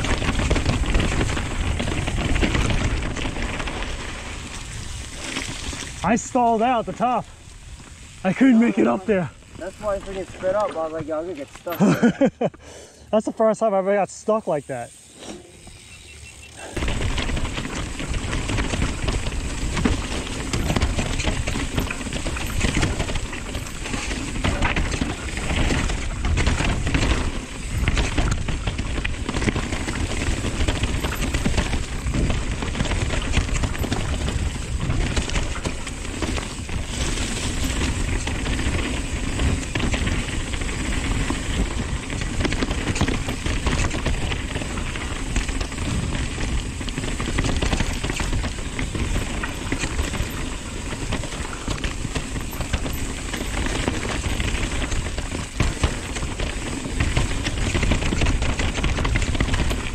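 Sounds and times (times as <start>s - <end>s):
bike rattling over rocks: 0.0s - 12.4s, 13.3s - 59.9s
tyres rushing on dirt: 0.0s - 12.4s, 13.1s - 59.9s.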